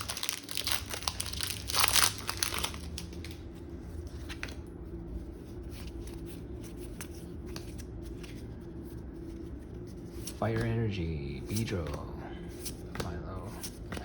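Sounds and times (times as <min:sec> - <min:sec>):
trading cards clicking and rustling: 0:00.0 - 0:03.4, 0:05.6 - 0:14.0
low steady hum: 0:00.0 - 0:14.0.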